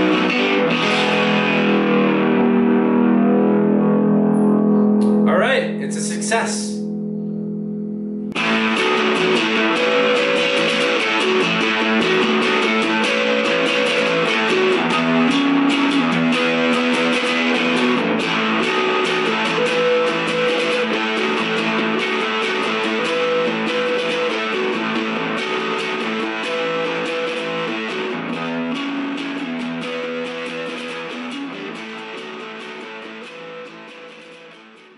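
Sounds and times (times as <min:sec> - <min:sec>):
clean electric guitar: 0:00.0 - 0:34.9
fuzz electric guitar riff: 0:00.0 - 0:34.9.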